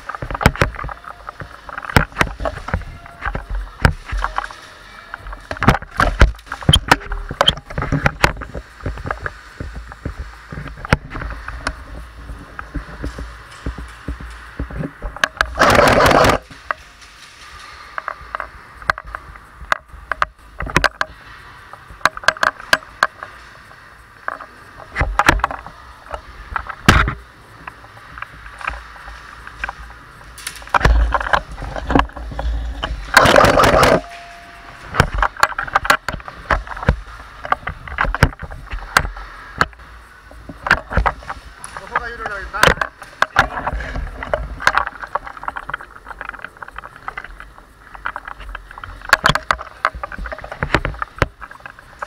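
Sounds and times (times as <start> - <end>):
footsteps: 0.0 - 52.0
steady hiss: 0.0 - 52.0.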